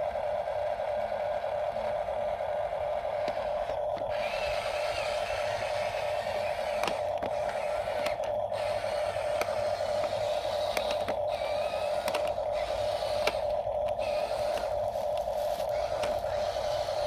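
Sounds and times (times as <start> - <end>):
small gear motor whirring: 0.0 - 17.0
sharp clicks: 3.2 - 17.0.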